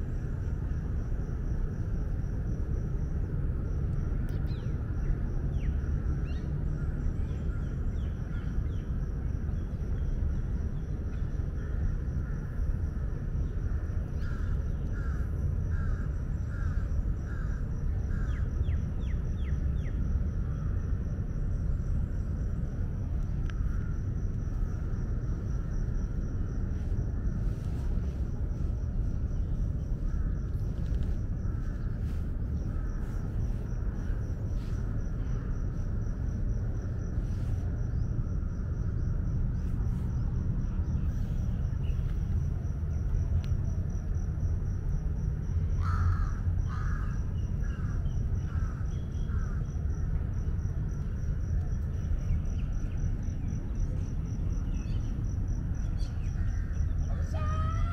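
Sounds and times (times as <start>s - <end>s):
low rumble: 0.0s - 57.1s.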